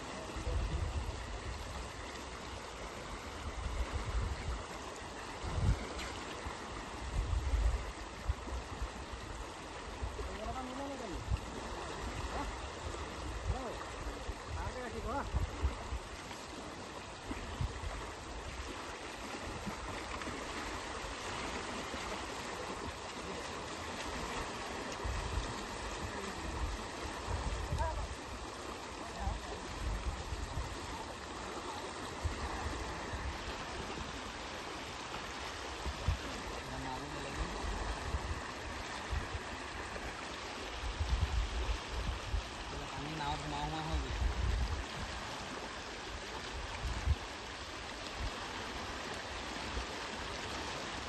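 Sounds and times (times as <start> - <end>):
floodwater rushing: 0.0 - 51.0.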